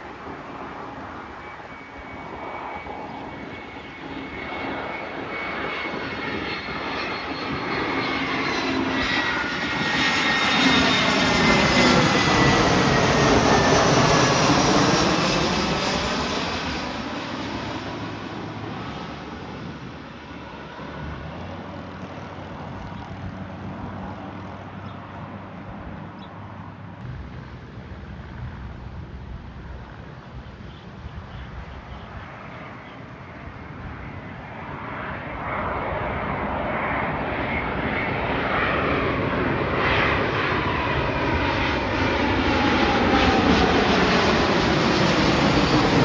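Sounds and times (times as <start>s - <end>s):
jet airliner passing overhead: 0.0s - 46.0s.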